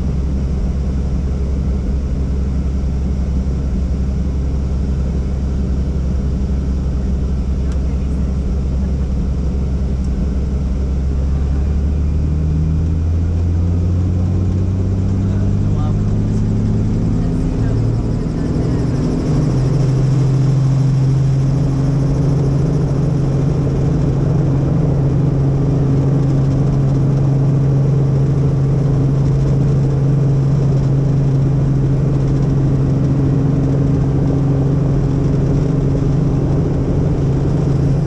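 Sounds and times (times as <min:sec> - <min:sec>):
helicopter engine and rotor: 0:00.0 - 0:38.0.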